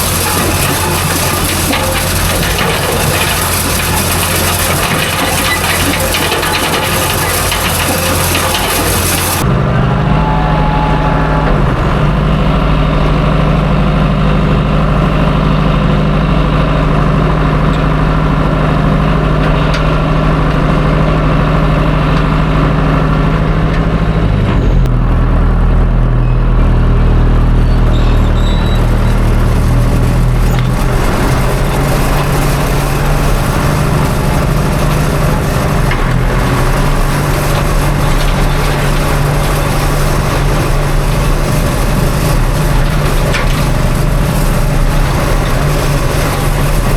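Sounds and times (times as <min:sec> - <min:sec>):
tractor engine under load: 0:00.0 - 0:10.0, 0:11.4 - 0:46.9.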